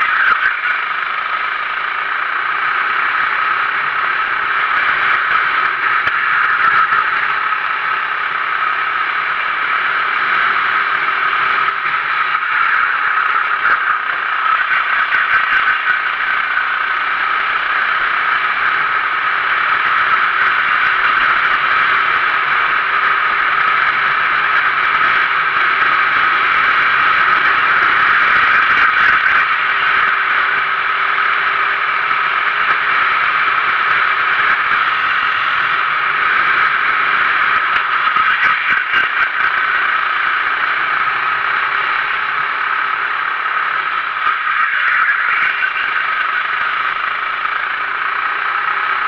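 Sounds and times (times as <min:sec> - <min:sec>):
kart engine running hard: 0:00.0 - 0:49.0
rattle: 0:00.0 - 0:49.0.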